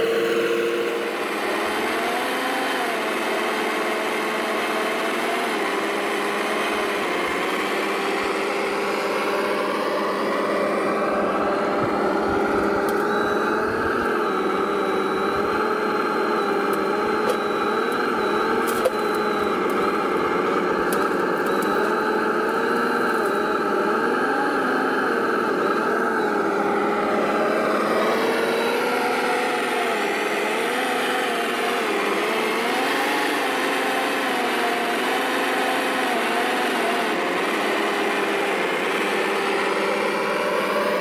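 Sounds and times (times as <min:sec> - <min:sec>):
model vehicle motor whine: 0:00.0 - 0:41.0.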